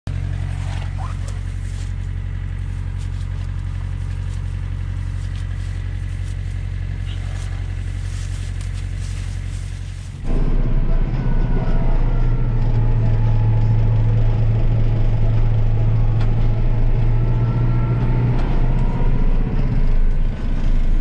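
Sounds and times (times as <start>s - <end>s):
tractor engine idling: 0.1s - 21.0s.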